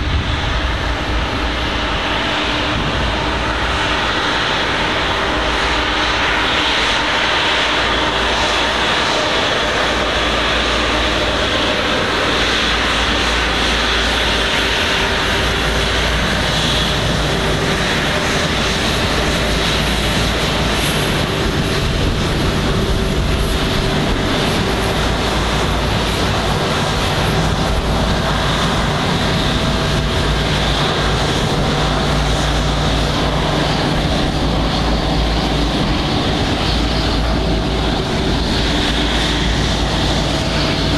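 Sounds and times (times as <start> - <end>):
jet engines rumbling with whine: 0.0 - 40.9.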